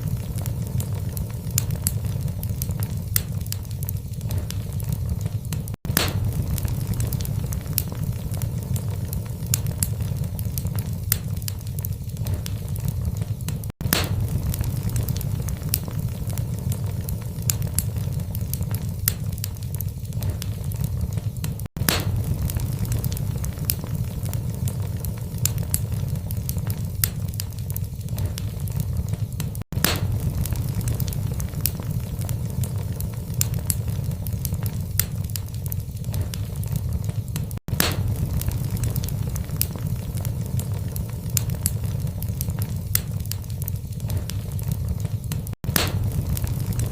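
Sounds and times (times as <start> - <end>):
log fire crackling and popping: 0.0 - 46.9.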